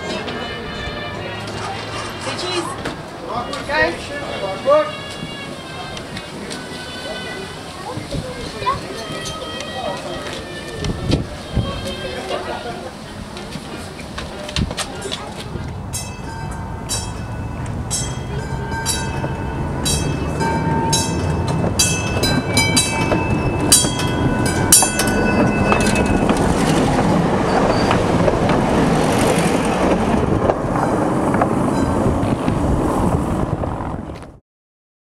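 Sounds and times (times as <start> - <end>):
streetcar wheels rumbling: 0.0 - 34.4.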